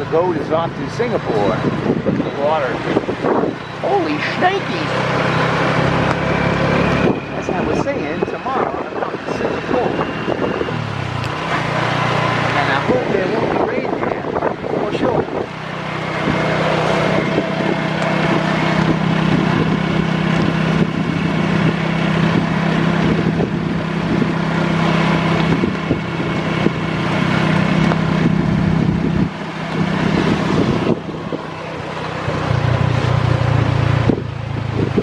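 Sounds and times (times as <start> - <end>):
heavy rain and rushing water: 0.0 - 35.0
vehicle engine running: 0.0 - 35.0.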